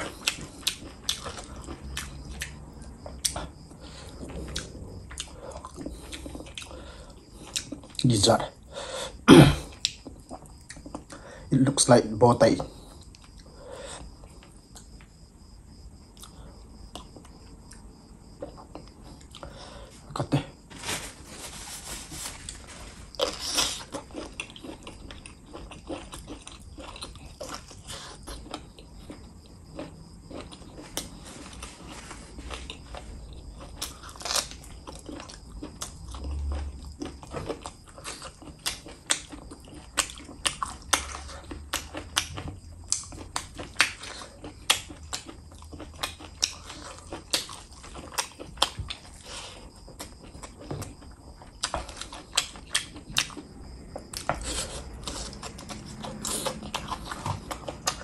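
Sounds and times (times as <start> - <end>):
chewing with wet crunches: 0.0 - 20.2, 22.4 - 58.0.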